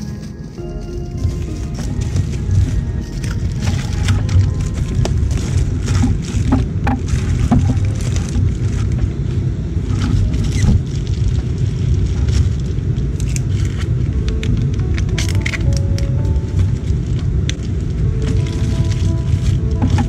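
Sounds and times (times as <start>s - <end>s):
bubble wrap crinkling: 0.0s - 20.0s
steady low rumble: 0.0s - 20.0s.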